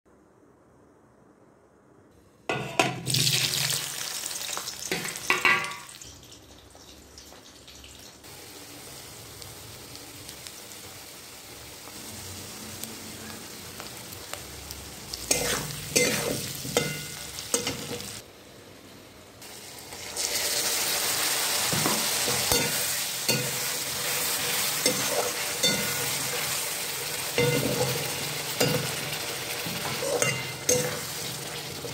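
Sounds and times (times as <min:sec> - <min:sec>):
potatoes sizzling in hot oil: 0:02.7 - 0:18.2, 0:19.4 - 0:31.9.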